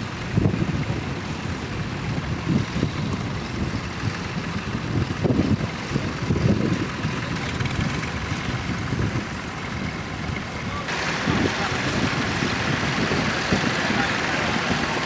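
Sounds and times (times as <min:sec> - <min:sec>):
tractor engine running: 0:00.0 - 0:15.0
wind buffeting microphone: 0:00.0 - 0:15.0.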